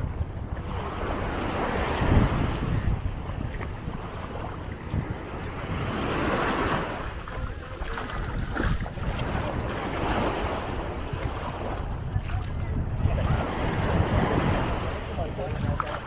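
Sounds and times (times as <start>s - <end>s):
sea waves washing ashore: 0.0s - 16.0s
wind buffeting microphone: 0.0s - 16.0s.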